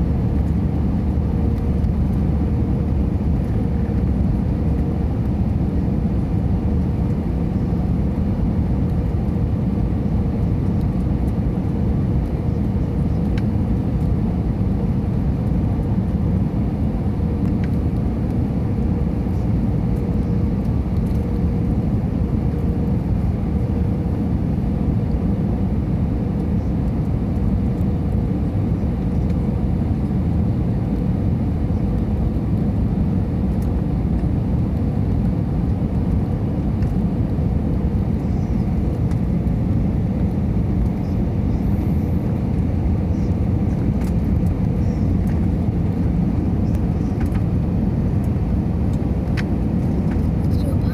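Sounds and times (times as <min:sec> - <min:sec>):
airliner engines rumbling: 0:00.0 - 0:50.9
faint steady hum: 0:00.0 - 0:50.9.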